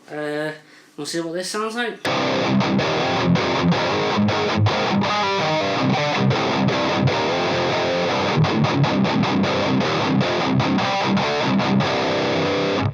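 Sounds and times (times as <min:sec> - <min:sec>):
distorted electric guitar riff: 0:02.1 - 0:12.9.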